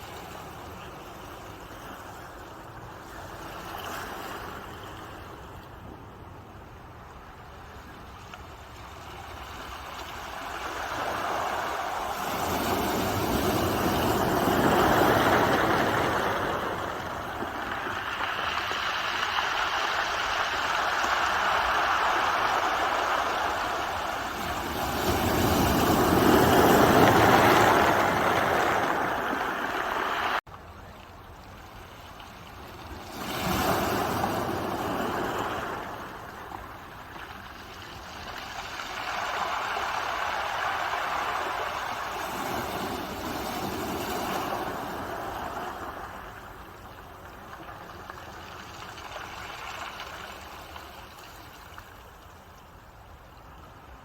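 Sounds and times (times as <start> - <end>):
ocean waves breaking on shore: 0.0 - 30.4, 31.6 - 54.0.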